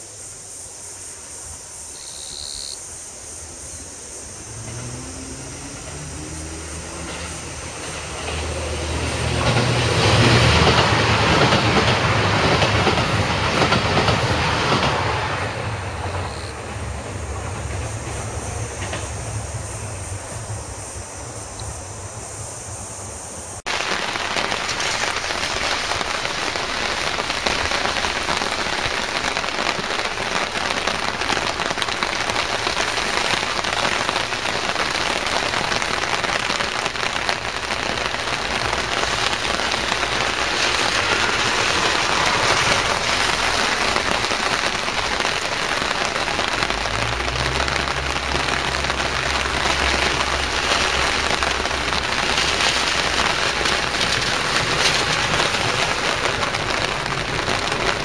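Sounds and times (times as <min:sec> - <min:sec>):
rain falling on pavement: 0:04.3 - 0:19.4, 0:23.6 - 0:58.0.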